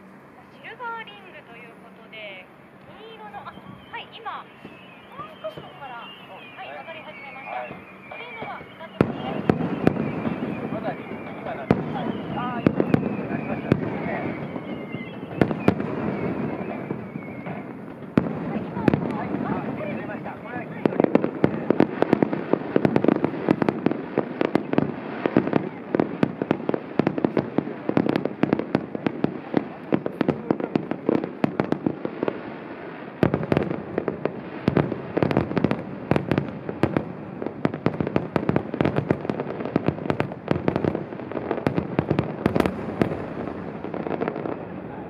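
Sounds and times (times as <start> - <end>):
continuous rumble: 0.0 - 45.0
fireworks bangs and crackling: 0.0 - 45.0.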